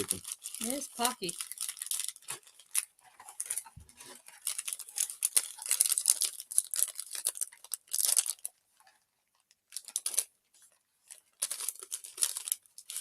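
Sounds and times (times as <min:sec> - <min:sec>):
plastic wrapper crinkling and tearing: 0:00.0 - 0:08.6, 0:09.4 - 0:10.3, 0:11.0 - 0:13.0.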